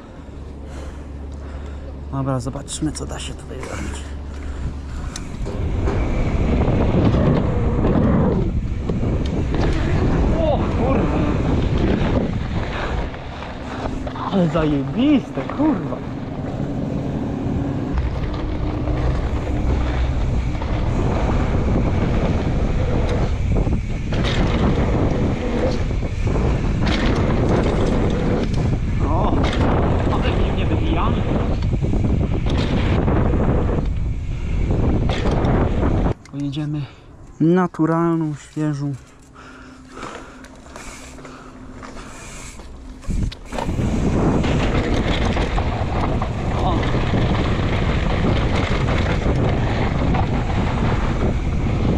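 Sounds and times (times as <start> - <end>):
mountain bike rolling and rattling: 0.0 - 36.9, 38.0 - 51.9
wind buffeting microphone: 0.0 - 37.3, 37.9 - 51.9
low rumble: 0.0 - 51.9.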